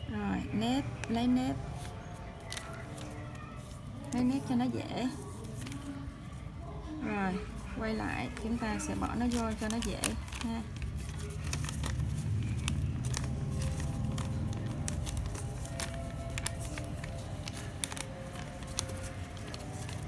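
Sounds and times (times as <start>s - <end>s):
paper being folded and creased: 1.0s - 6.1s, 7.4s - 20.0s.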